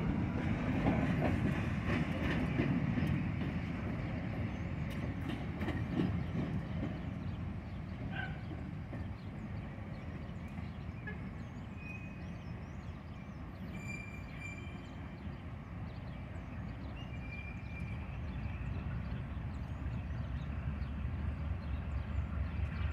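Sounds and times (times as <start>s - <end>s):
diesel locomotives rumbling: 0.0s - 22.9s.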